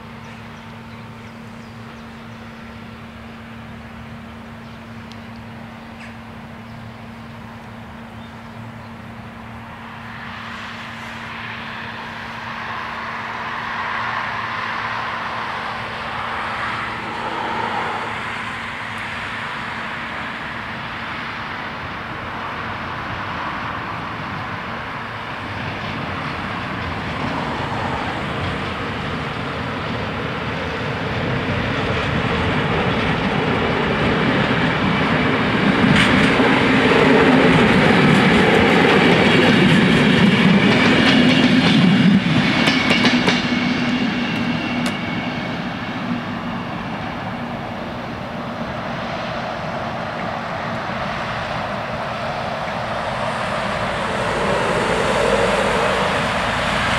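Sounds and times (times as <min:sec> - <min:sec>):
train passing with wheel clatter: 0:00.0 - 0:56.9.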